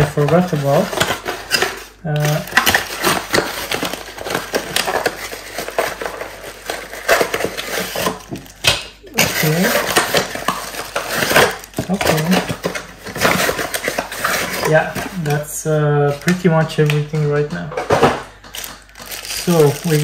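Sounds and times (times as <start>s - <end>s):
plastic packaging rustling: 0.0s - 20.0s.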